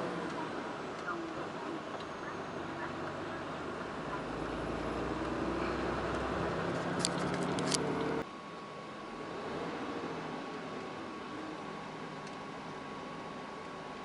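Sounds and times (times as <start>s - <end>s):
truck diesel engine and road noise: 0.0s - 14.0s.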